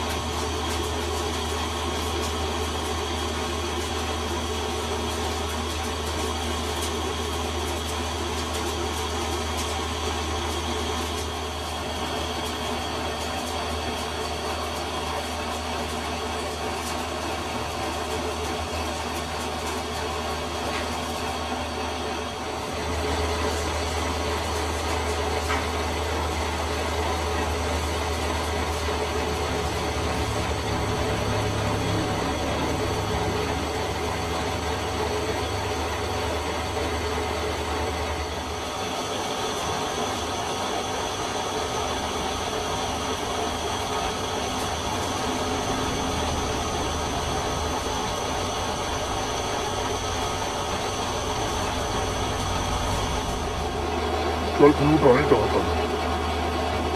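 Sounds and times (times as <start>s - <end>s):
metal lathe motor hum: 0.0s - 56.9s.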